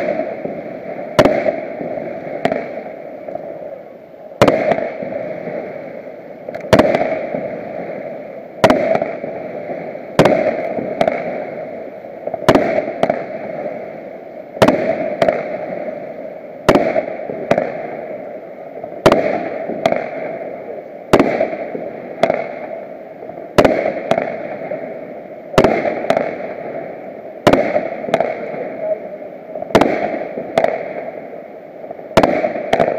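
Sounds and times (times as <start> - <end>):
fireworks shells bursting: 0.0 - 3.6, 4.4 - 32.9
steady background hiss: 0.0 - 32.9.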